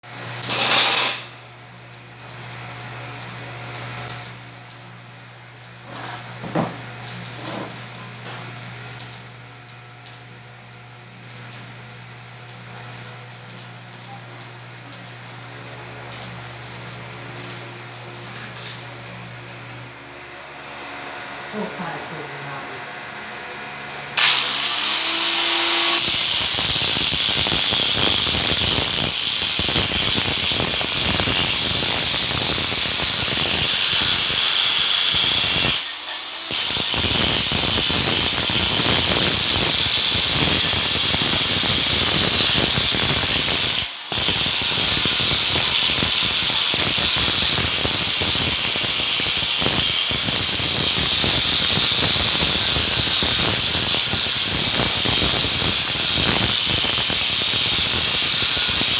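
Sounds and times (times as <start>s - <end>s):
welding arc crackling: 0.0s - 22.5s, 24.2s - 58.9s.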